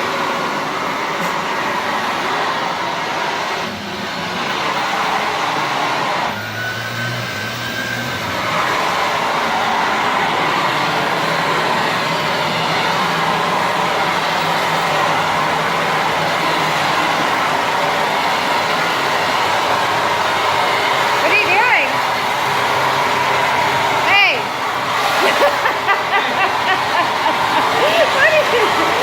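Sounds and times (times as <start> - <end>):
leaf blower vacuum running: 0.0 - 29.0.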